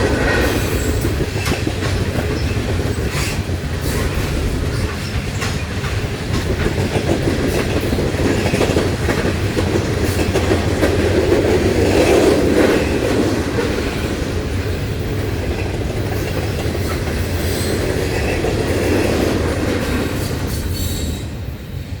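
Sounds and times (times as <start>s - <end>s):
train rumble: 0.0s - 22.0s
train wheels clacking: 0.0s - 22.0s.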